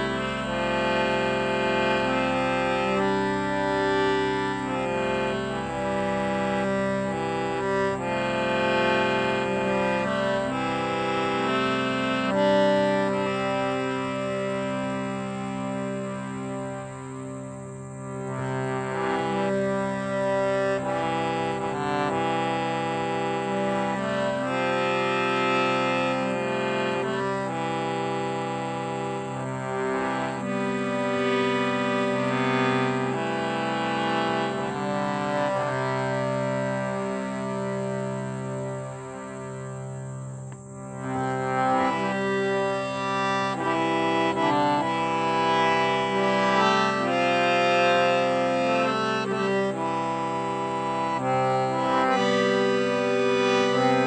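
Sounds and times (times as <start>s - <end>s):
harmonium playing slow chords: 0.0s - 54.0s.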